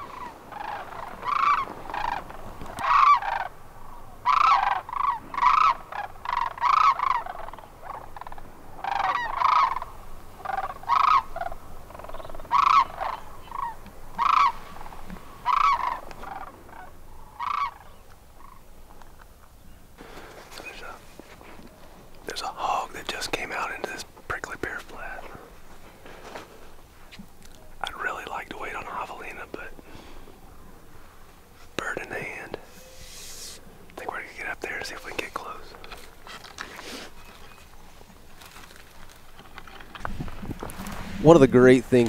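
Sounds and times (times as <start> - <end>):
large birds calling: 0.0 - 40.4.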